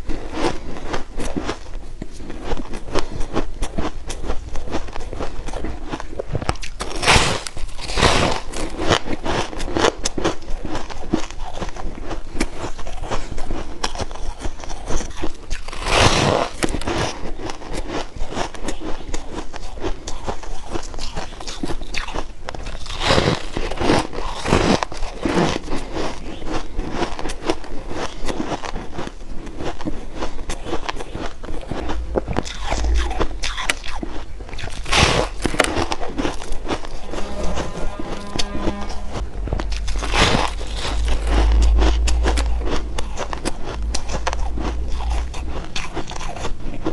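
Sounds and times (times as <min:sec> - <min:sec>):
crunchy chewing of shaved ice: 0:00.0 - 0:38.7, 0:39.4 - 0:46.9.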